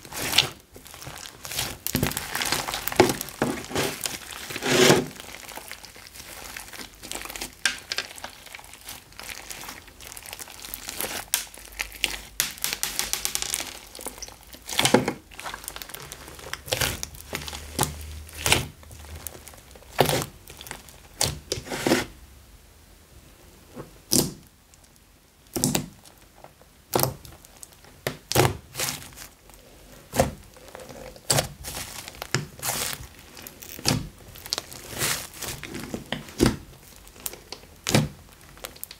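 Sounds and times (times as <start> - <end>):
hands squishing slime: 0.0 - 22.0, 26.9 - 38.9.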